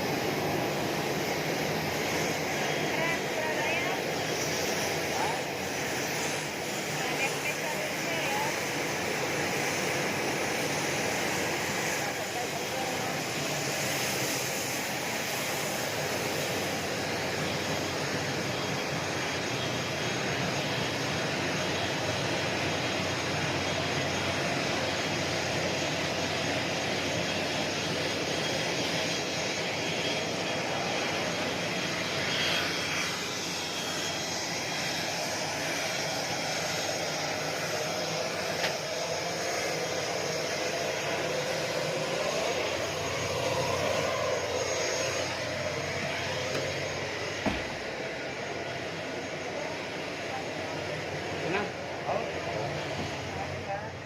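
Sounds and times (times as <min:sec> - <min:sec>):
jet turbine whine: 0:00.0 - 0:54.0.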